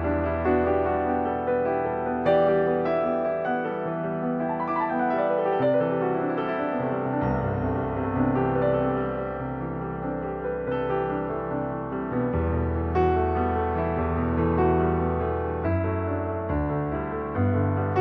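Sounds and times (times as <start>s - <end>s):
soft piano music: 0.0s - 18.0s.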